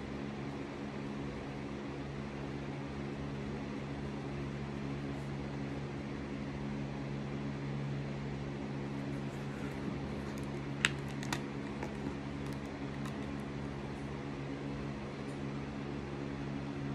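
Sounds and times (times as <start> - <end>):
low mechanical hum: 0.0 - 16.9.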